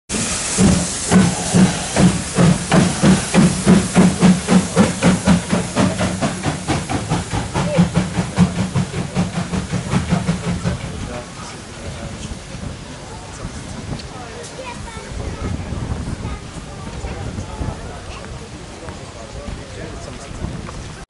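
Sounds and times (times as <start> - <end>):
steady steam hiss: 0.1 - 21.0
steam locomotive exhaust chuffing: 0.1 - 21.0.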